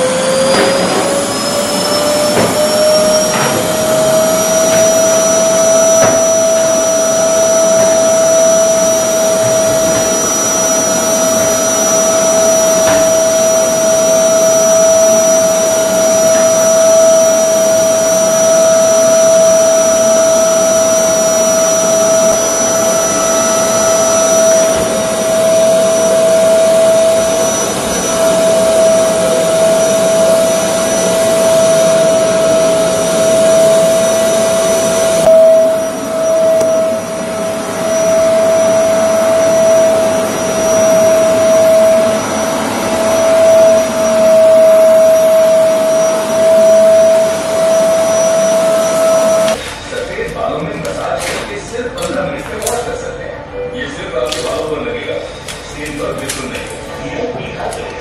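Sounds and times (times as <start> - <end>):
vacuum cleaner motor whine: 0.0 - 50.0.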